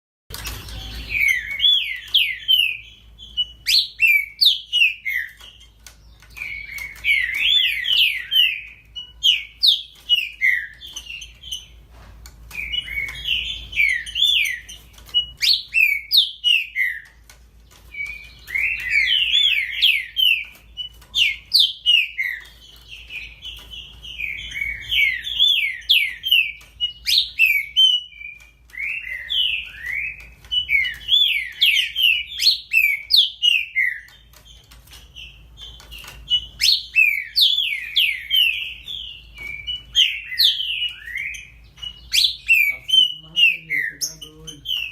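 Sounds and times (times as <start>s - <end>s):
bird singing whistled notes: 0.4s - 11.8s, 12.5s - 17.2s, 17.8s - 44.9s.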